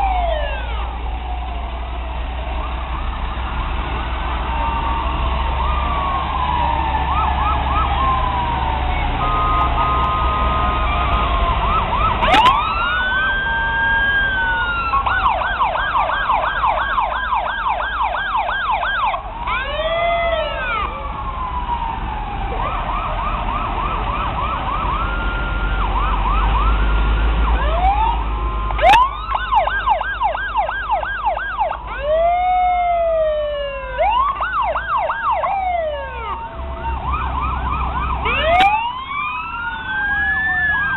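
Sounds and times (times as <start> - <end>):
fire engine sirens: 0.0 - 40.9
low rumble of trucks: 0.0 - 40.9.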